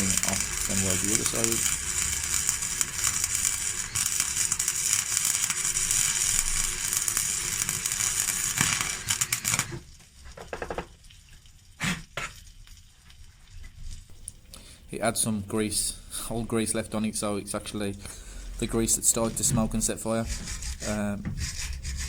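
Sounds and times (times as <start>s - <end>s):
welding arc crackling: 0.0s - 12.9s, 14.1s - 22.0s.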